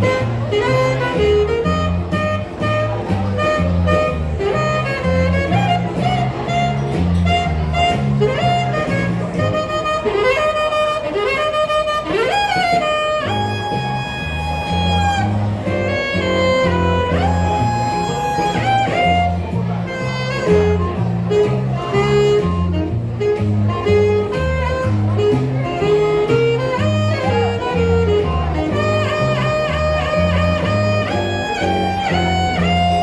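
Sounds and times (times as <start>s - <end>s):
stepping bass line: 0.0s - 9.8s, 13.2s - 33.0s
sliding lead melody: 0.0s - 33.0s.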